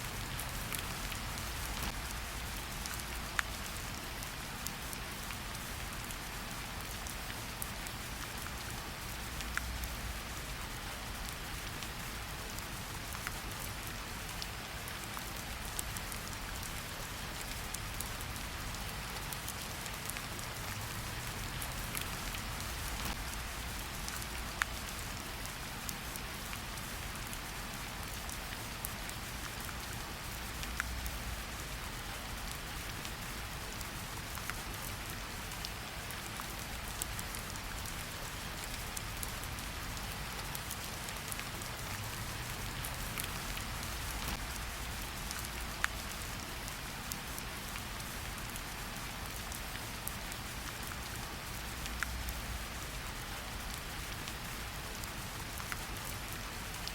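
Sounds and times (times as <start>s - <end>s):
steady rain in forest: 0.0s - 56.9s.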